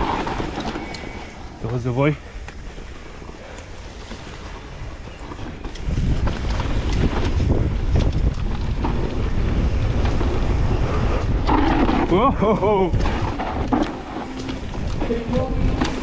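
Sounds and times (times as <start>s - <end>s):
bike knocking and rattling: 0.0s - 16.0s
wind buffeting microphone: 0.0s - 16.0s.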